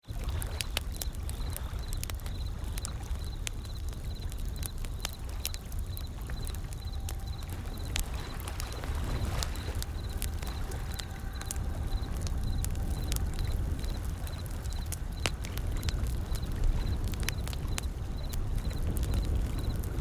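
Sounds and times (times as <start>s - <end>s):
wood fire crackling and popping: 0.0s - 20.0s
ocean waves rumbling: 0.1s - 20.0s.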